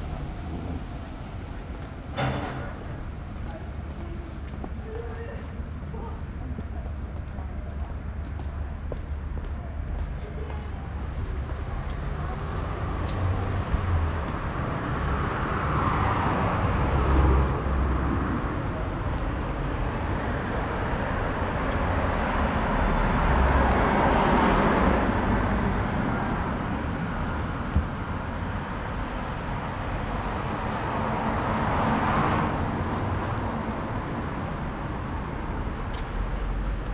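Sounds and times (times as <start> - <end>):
low traffic rumble: 0.0 - 36.9
vehicles passing: 0.0 - 36.9.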